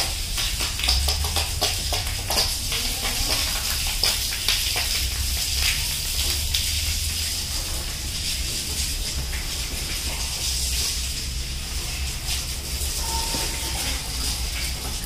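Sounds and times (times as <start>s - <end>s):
water jet spraying on metal fins: 0.0s - 15.0s.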